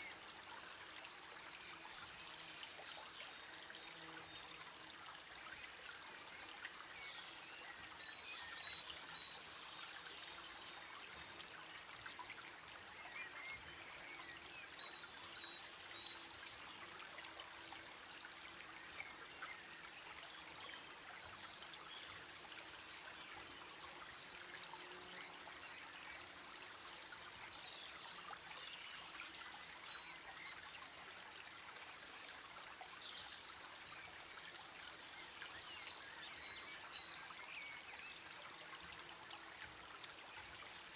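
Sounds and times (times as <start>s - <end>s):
faint running water: 0.0s - 40.9s.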